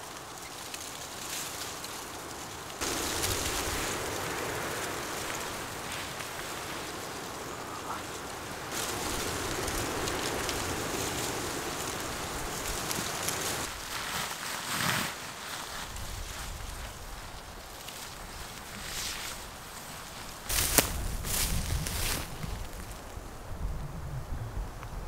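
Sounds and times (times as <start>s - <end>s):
wind gusting through trees: 0.0s - 25.0s.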